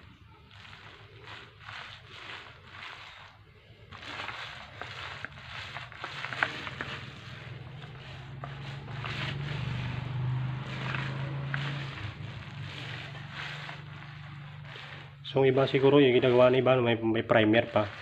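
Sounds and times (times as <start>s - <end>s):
paint roller swishing strokes: 0.0s - 18.0s.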